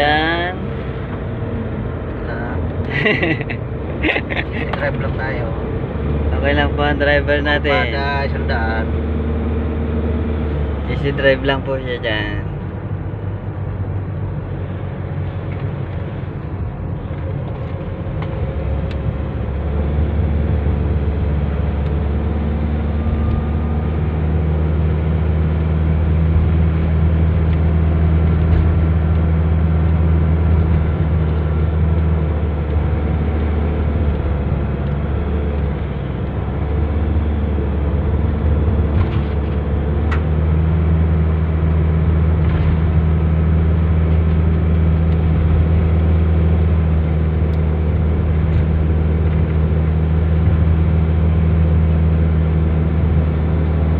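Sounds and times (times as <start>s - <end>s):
van engine and road noise: 0.0s - 53.9s.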